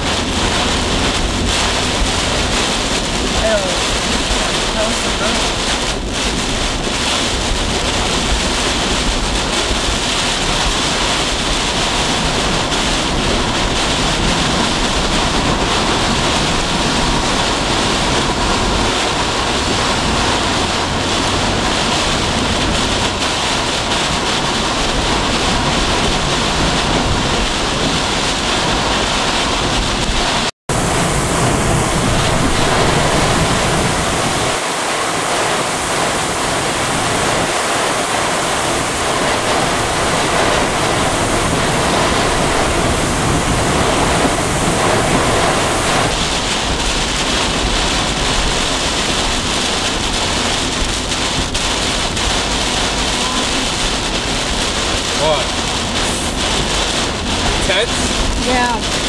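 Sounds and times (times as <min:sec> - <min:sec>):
deep rumble: 0:00.0 - 0:59.0
strong wind buffeting vehicle: 0:00.0 - 0:59.0.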